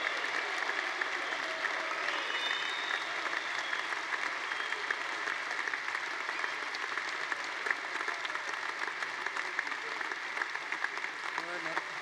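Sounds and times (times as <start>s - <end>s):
people applauding: 0.0s - 12.0s.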